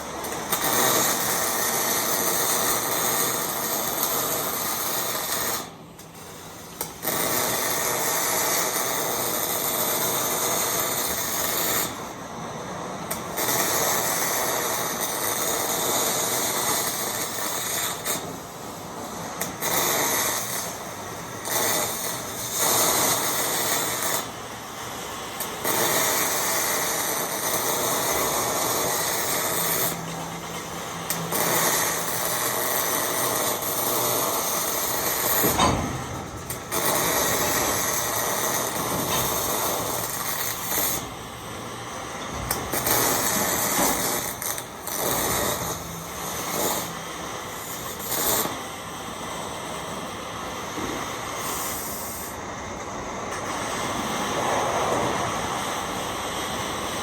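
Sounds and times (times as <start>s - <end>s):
welding arc crackling: 0.0s - 57.0s.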